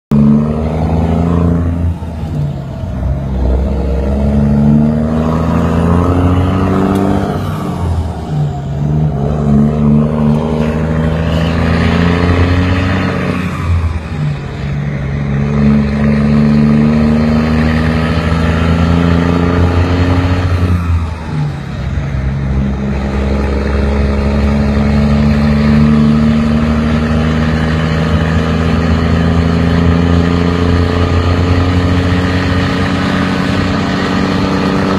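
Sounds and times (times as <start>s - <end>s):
vehicle engine accelerating: 0.1s - 34.9s.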